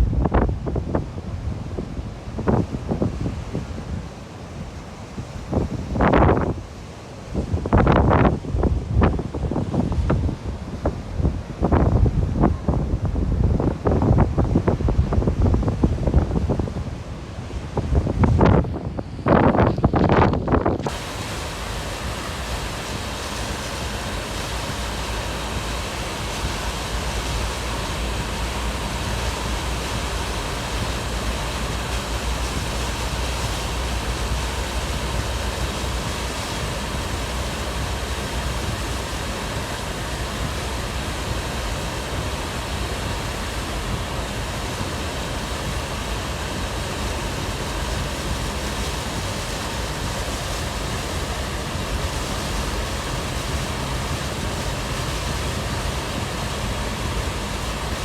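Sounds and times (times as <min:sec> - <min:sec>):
strong wind on microphone: 0:00.0 - 0:58.0.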